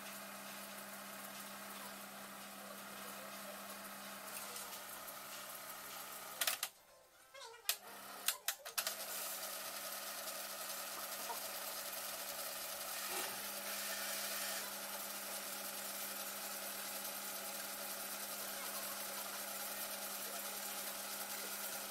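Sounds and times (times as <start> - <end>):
film projector humming: 0.0 - 6.8, 7.7 - 21.9.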